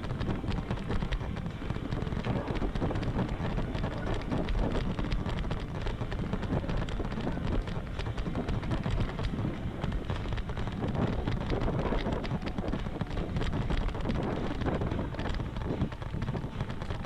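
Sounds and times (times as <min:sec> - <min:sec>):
crackle and rattle of bike: 0:00.0 - 0:17.0
wind buffeting microphone: 0:00.0 - 0:17.0.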